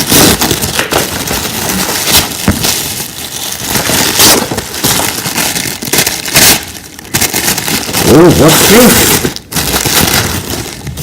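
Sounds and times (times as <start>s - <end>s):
wrapping paper crinkling: 0.0s - 11.0s.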